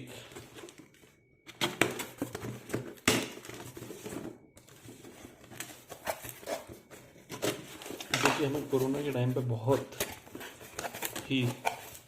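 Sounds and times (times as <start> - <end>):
packaging crinkling and rustling: 0.1 - 12.0.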